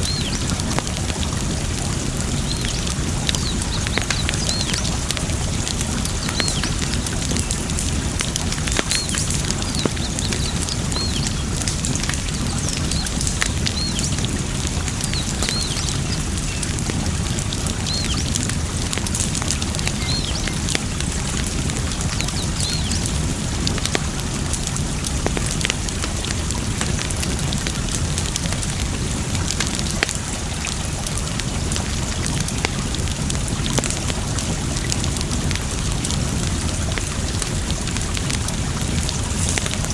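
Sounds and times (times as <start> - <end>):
campfire crackling and popping: 0.0 - 39.9
rushing water: 0.0 - 39.9.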